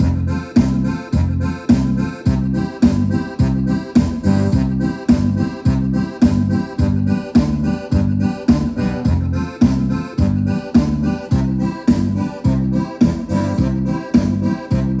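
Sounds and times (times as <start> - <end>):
electronic keyboard accompaniment: 0.0 - 15.0.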